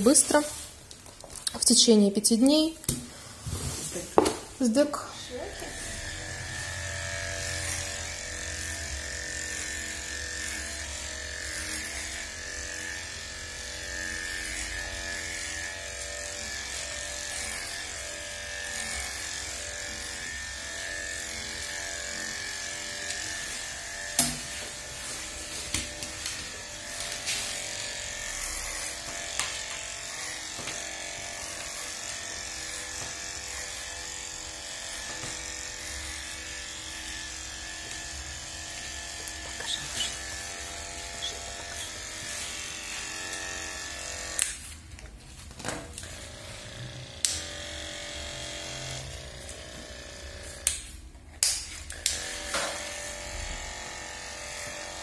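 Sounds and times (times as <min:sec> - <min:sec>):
electric clipper humming: 0:04.1 - 0:55.0.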